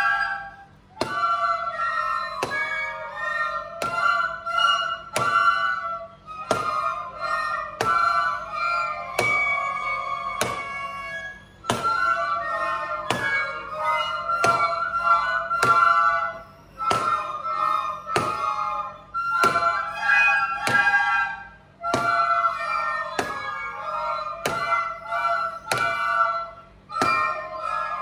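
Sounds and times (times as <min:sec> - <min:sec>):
children playing recorders: 0:00.0 - 0:28.0
sharp knock keeping a beat: 0:00.0 - 0:28.0.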